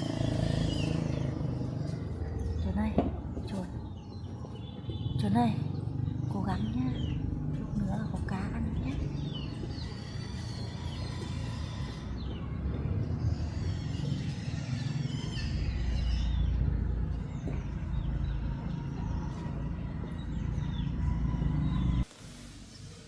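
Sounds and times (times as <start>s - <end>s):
birds chirping: 0.0s - 22.0s
low uneven rumbling: 0.0s - 22.1s.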